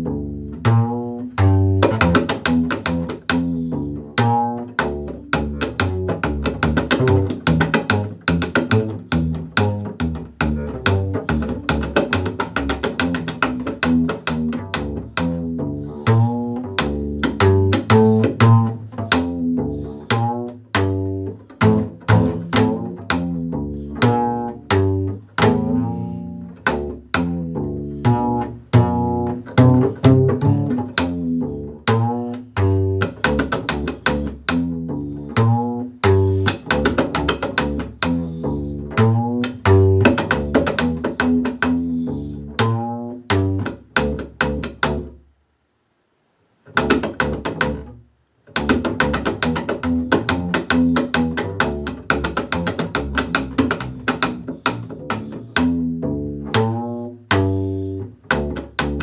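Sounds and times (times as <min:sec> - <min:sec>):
strings clicking against fingerboard: 0:00.0 - 0:45.3, 0:46.6 - 0:59.0
upright bass slap notes: 0:00.0 - 0:45.3, 0:46.7 - 0:59.0.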